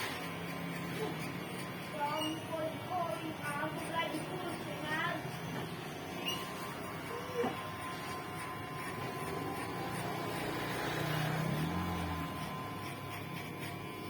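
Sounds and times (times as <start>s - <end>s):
electric hair clipper buzzing: 0.0s - 14.0s.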